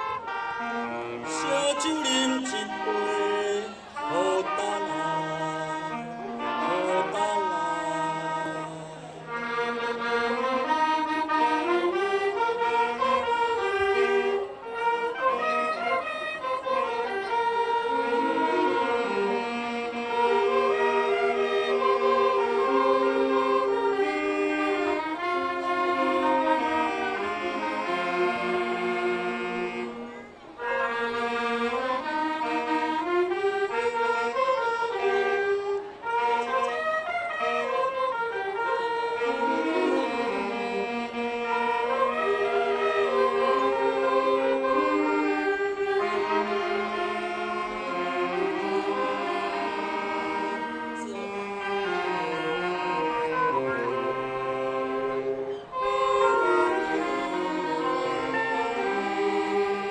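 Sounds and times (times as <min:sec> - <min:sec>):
saxophone ensemble playing: 0:00.0 - 0:59.9.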